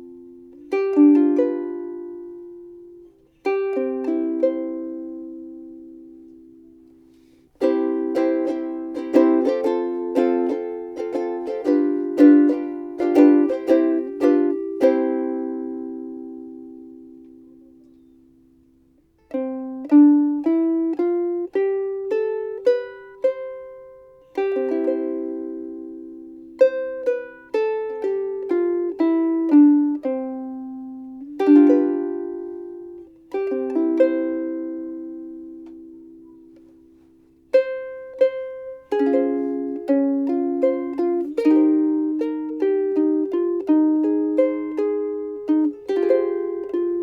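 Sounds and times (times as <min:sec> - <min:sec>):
ukulele picked and strummed: 0:00.0 - 0:47.0.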